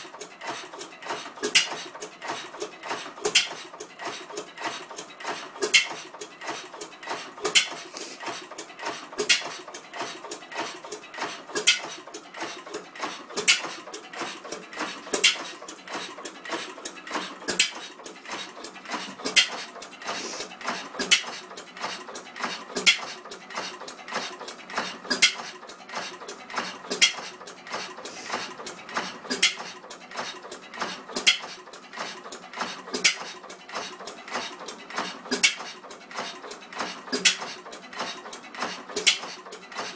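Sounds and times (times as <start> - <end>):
stationary engine clicking: 0.0 - 39.9.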